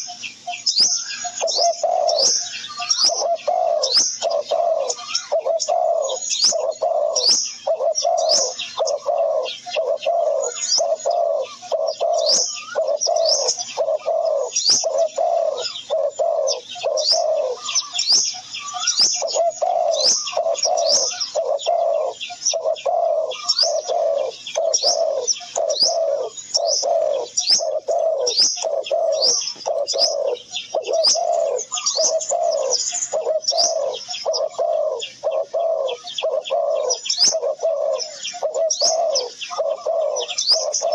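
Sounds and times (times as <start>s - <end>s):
doves cooing: 0.0s - 40.9s
small birds chirping: 0.0s - 40.9s.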